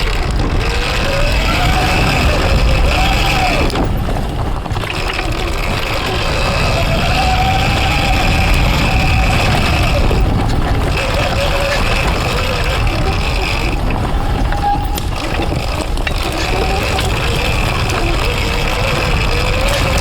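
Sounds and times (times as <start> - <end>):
electric motor whine: 0.0 - 20.0
wind and tyre rumble: 0.0 - 20.0.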